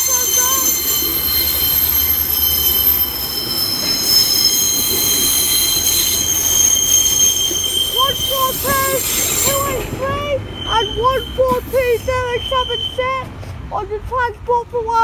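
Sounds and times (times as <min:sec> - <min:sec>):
short high calls: 0:00.0 - 0:13.2
train wheels squealing: 0:00.0 - 0:13.2.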